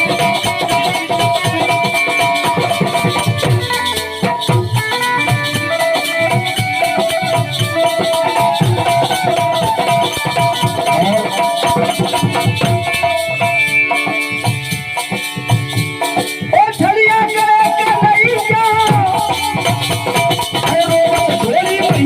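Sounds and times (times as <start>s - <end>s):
hand-drum and shaker rhythm: 0.0s - 22.0s.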